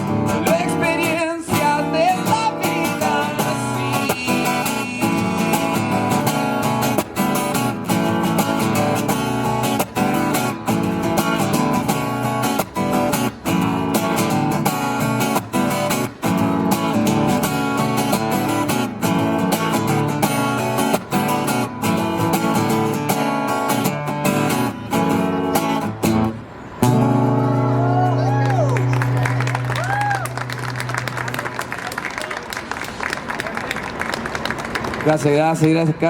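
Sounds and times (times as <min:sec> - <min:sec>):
acoustic guitar strumming: 0:00.0 - 0:29.7.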